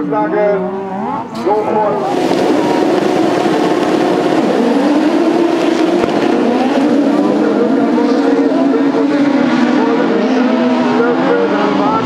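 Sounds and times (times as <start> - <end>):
racing buggy engines: 0.0 - 12.0.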